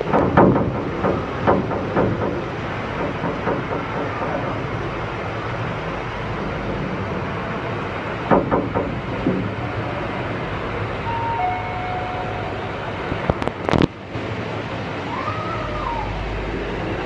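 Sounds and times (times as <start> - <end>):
distant voices: 0.0 - 17.0
shopping mall hum: 0.0 - 17.0.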